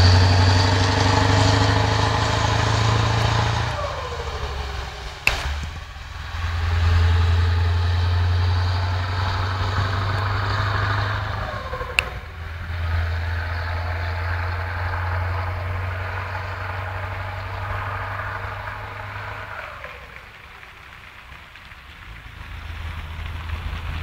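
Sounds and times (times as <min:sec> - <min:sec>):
diesel engine droning: 0:00.0 - 0:24.0
falling whine: 0:00.0 - 0:24.0.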